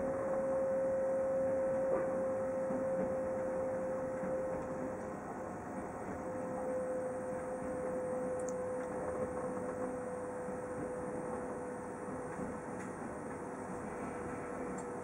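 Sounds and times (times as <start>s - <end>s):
train running noise inside carriage: 0.0s - 15.0s.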